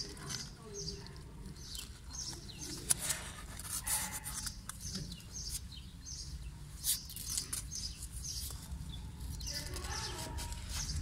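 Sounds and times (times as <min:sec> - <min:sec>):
kittens rustling on cardboard: 0:00.0 - 0:05.8, 0:06.7 - 0:11.0
sharp scratches: 0:00.0 - 0:11.0.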